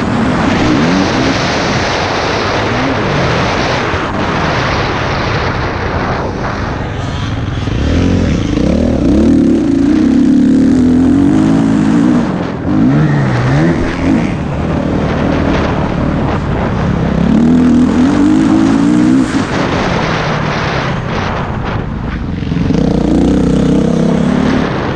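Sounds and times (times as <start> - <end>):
vehicle engine revving: 0.0 - 24.9.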